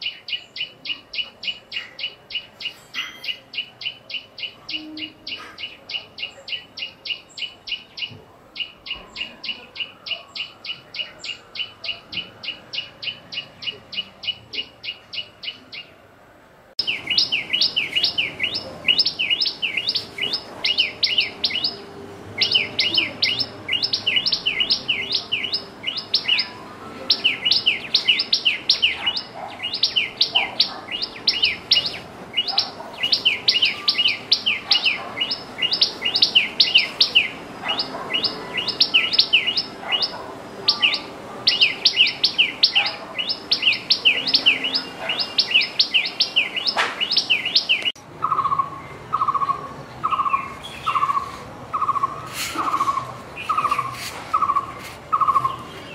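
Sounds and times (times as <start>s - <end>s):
bird singing high sharp notes: 0.0s - 15.9s, 16.8s - 40.1s, 40.7s - 55.9s.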